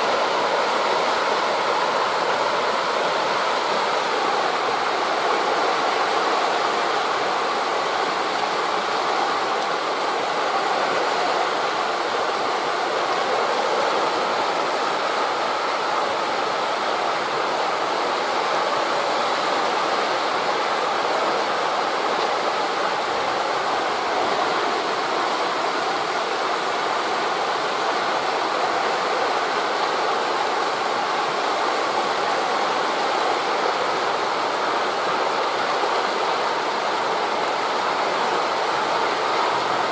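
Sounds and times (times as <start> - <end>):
surf rushing on beach: 0.0 - 39.9
wind through trees: 0.0 - 39.9.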